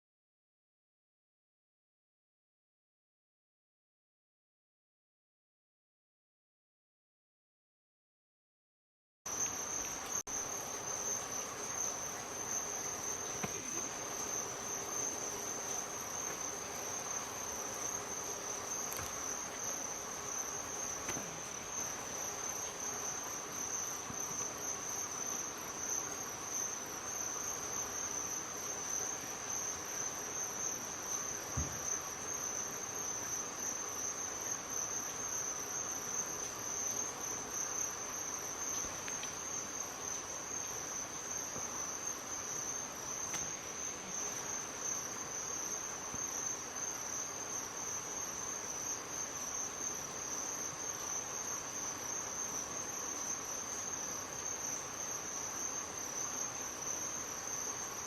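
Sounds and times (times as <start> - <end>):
high-pitched insect chorus: 9.3 - 58.0.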